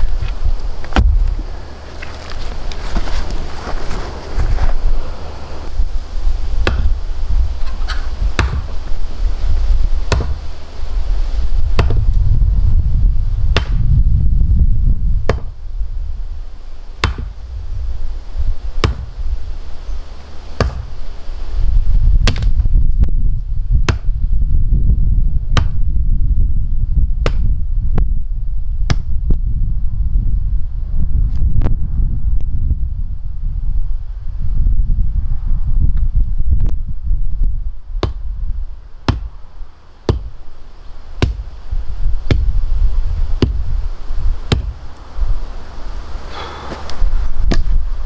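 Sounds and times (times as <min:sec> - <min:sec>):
wind rumbling on microphone: 0:00.0 - 0:48.0.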